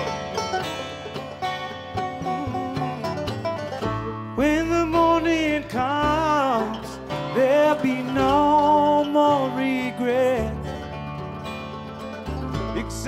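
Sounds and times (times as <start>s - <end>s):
bluegrass band playing: 0.0s - 13.0s
fiddle lead line: 0.0s - 13.0s.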